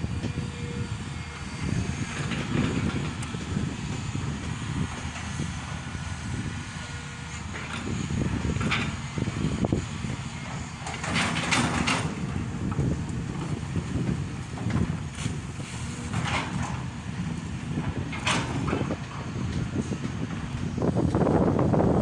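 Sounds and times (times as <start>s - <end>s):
excavator diesel engine droning: 0.0s - 22.0s.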